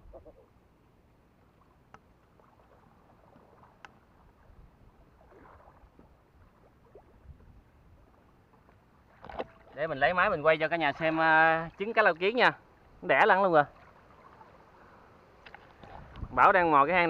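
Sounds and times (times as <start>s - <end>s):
river water stirred by wading: 0.0s - 17.0s.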